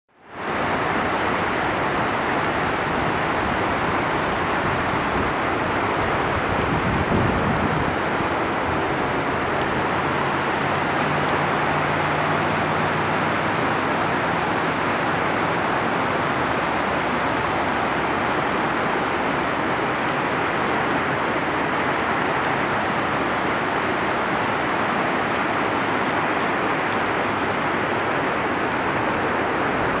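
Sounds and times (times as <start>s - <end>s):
rushing floodwater: 0.1s - 30.0s.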